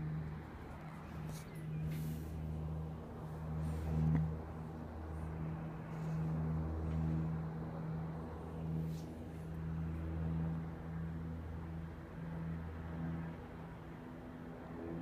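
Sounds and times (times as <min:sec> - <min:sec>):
aircraft engine drone overhead: 0:00.0 - 0:15.0.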